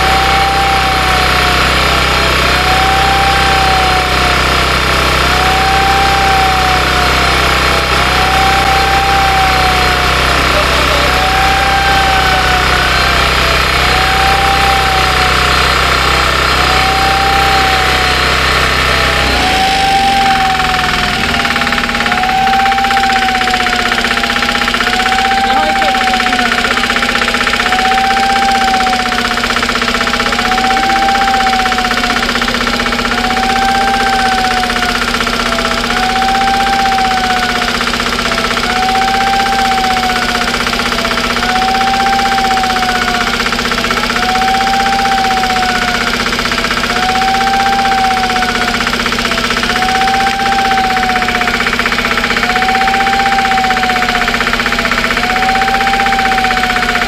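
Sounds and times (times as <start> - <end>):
crane engine running: 0.0 - 57.0
warning siren wailing: 0.0 - 57.0.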